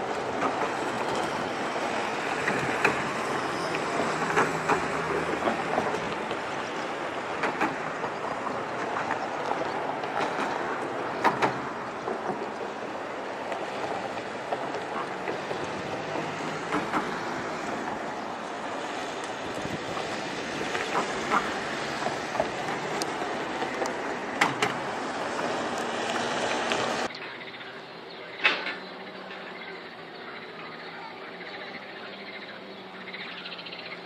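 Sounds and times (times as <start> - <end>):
outdoor background rushing: 0.0 - 34.0.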